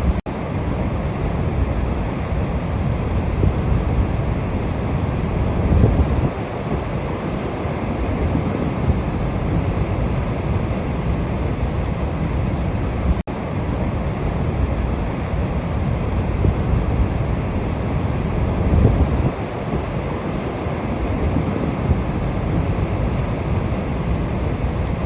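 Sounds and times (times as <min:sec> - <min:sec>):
waterfall rushing: 0:00.0 - 0:25.0
wind buffeting microphone: 0:00.0 - 0:25.0.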